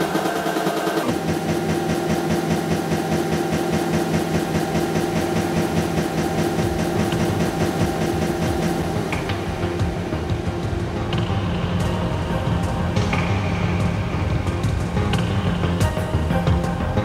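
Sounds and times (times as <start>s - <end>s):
droning electronic loop: 0.0s - 17.0s
rapid electronic pulse: 0.0s - 17.0s.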